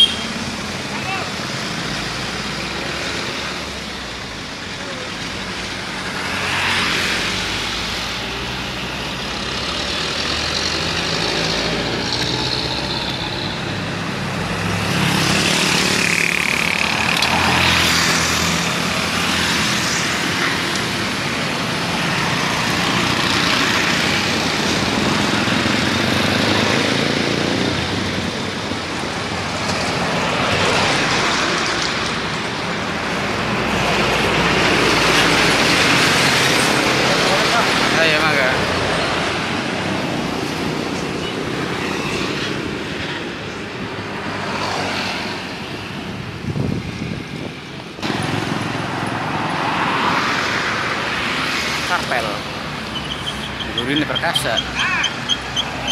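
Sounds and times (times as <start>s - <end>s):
heavy road traffic passing: 0.0s - 55.9s.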